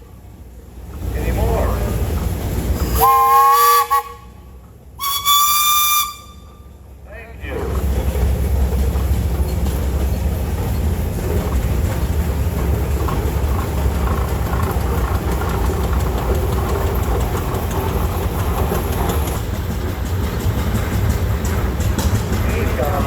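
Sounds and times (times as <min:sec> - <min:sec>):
steam traction engine rumbling: 0:00.0 - 0:23.0.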